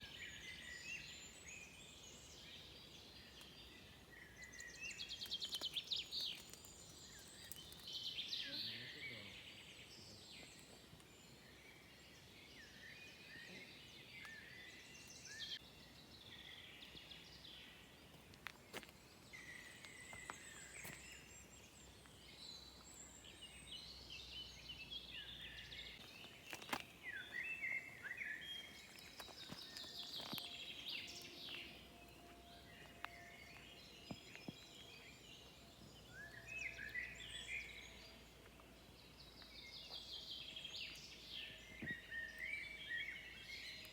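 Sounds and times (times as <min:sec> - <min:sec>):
songbirds singing faintly: 0:00.0 - 0:43.9.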